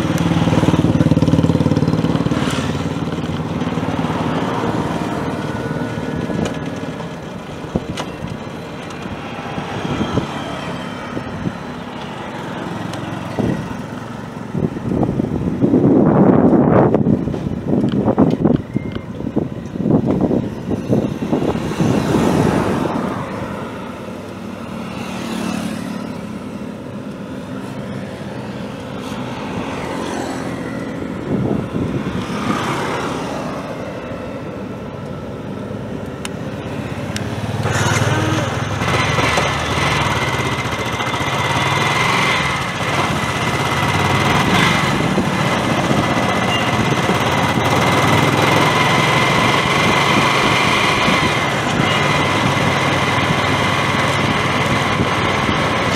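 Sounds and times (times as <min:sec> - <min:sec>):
motorcycle engine running: 0:00.0 - 0:32.6, 0:36.3 - 0:55.9.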